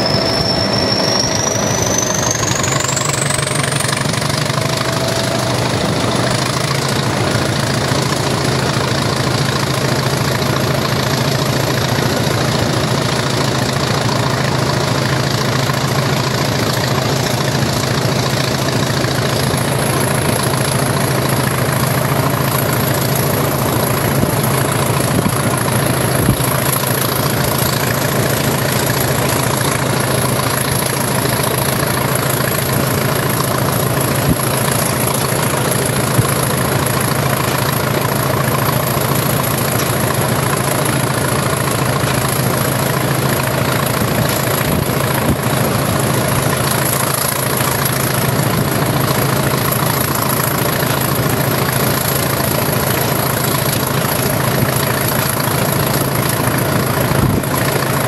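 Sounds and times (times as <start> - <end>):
diesel locomotive engine throbbing: 0.0 - 58.0
wheel and rail noise: 0.0 - 58.0.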